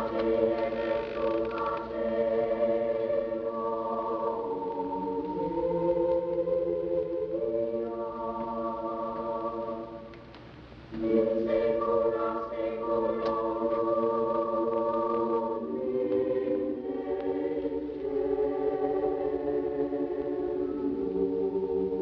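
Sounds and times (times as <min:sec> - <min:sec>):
choir singing: 0:00.0 - 0:10.2, 0:10.9 - 0:22.0.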